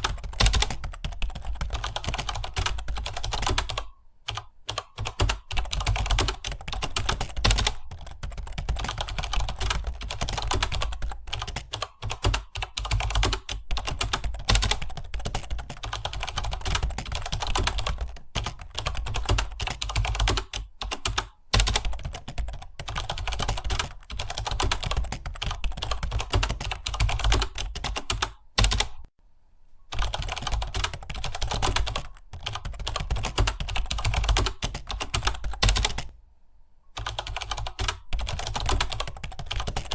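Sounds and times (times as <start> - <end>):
computer keyboard typing: 0.0 - 29.1, 29.9 - 36.2, 36.9 - 39.9.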